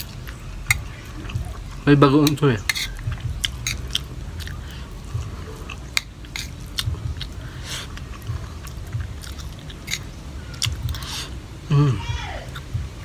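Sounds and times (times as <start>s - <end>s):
chewing rice: 0.0s - 11.3s.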